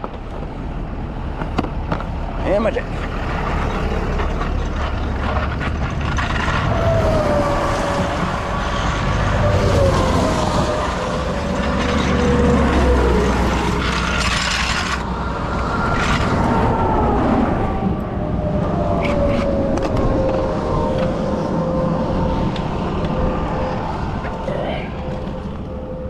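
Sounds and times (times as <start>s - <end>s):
constant low traffic rumble: 0.0s - 26.0s
vehicles passing with whine: 0.0s - 26.0s.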